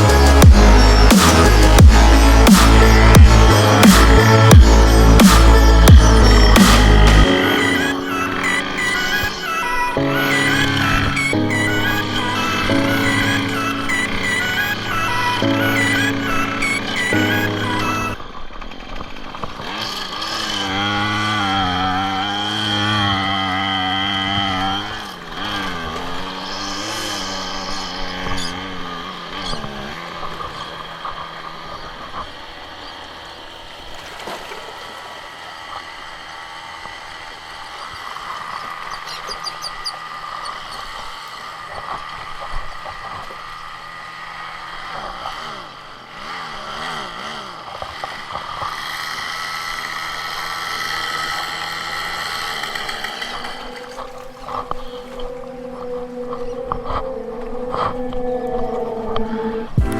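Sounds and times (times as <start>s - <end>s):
small gas engine running: 0.0s - 59.9s.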